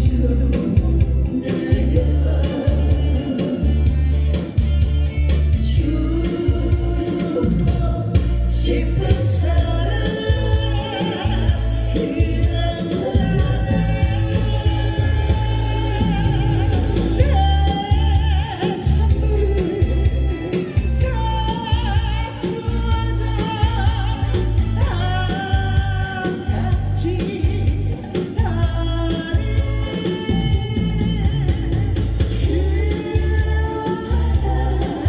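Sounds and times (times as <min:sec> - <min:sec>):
instrumental accompaniment with beat: 0:00.0 - 0:35.0
person singing with vibrato: 0:00.0 - 0:35.0.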